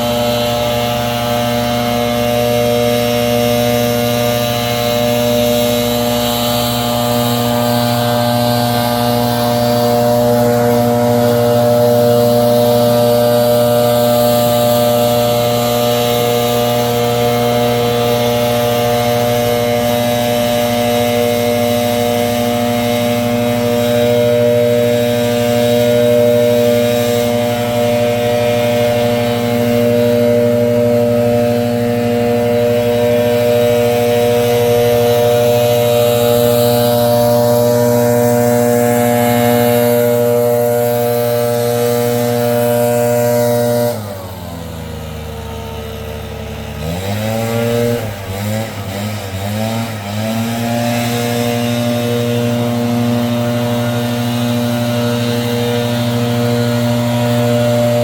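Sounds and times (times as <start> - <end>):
leaf blower running: 0.0 - 58.0.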